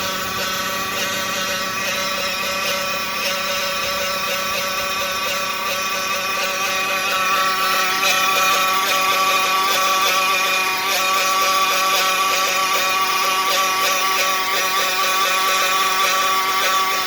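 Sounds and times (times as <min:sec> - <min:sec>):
van engine running with whine: 0:00.0 - 0:17.0.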